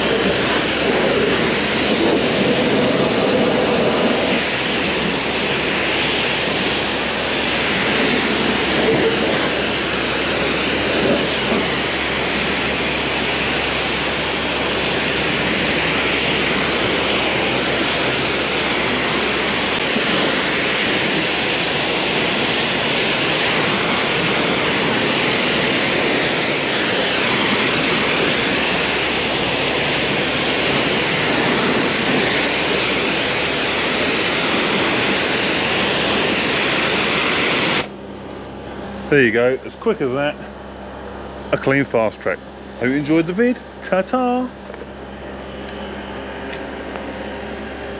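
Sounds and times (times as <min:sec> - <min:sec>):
pressure washer spraying water: 0:00.0 - 0:38.7.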